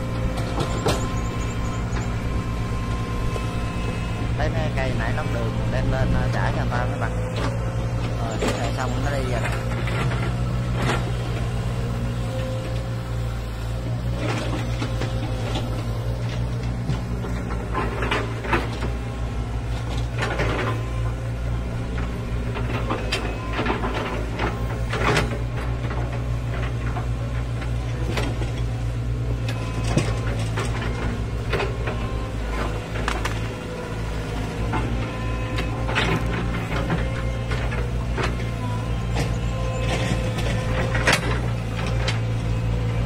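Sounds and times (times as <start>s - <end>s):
excavator diesel engine humming: 0.0s - 43.0s
machine knocks and clanks: 0.1s - 43.0s.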